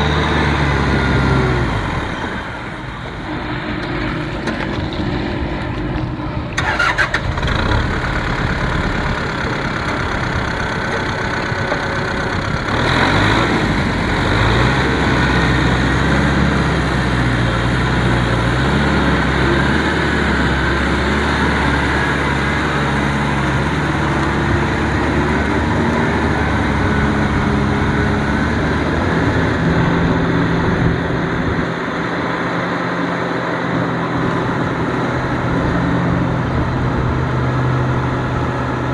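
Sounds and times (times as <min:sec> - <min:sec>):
tiller dragging through mud: 0:00.0 - 0:38.9
tractor diesel engine under load: 0:00.0 - 0:38.9.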